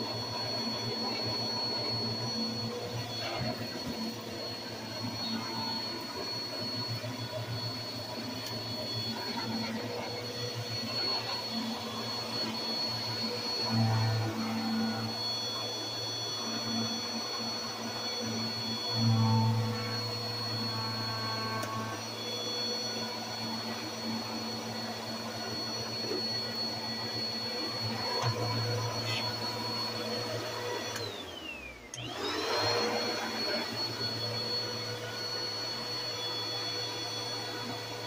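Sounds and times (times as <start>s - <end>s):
vacuum cleaner motor whine: 0.0s - 38.0s.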